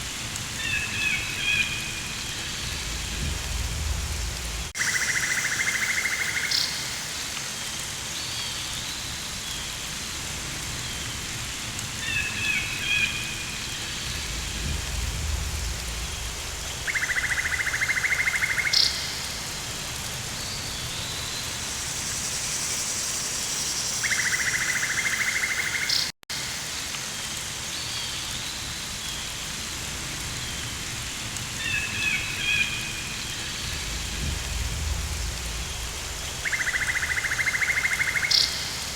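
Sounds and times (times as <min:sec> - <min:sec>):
rain hissing: 0:00.0 - 0:38.9.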